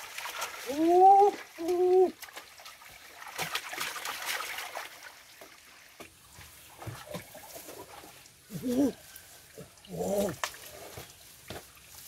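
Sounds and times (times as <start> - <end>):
shallow water trickling: 0.0 - 12.0.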